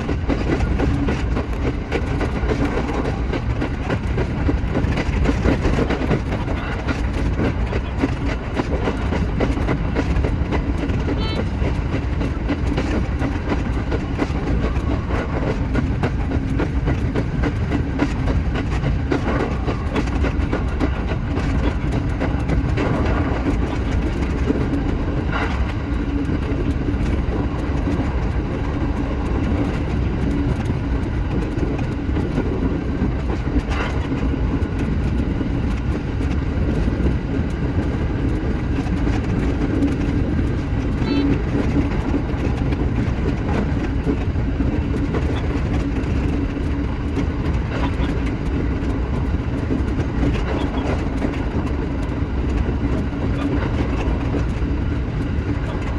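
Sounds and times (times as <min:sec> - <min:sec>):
electric train rumbling: 0:00.0 - 0:55.9
wheels clicking on track: 0:00.0 - 0:55.9.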